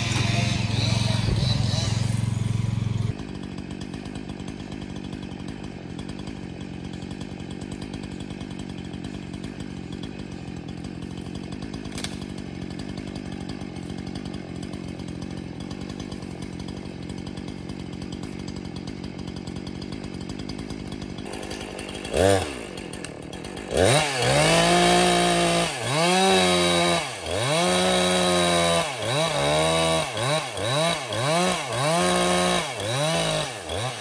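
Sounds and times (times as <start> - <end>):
chainsaw cutting logs: 0.0 - 34.0.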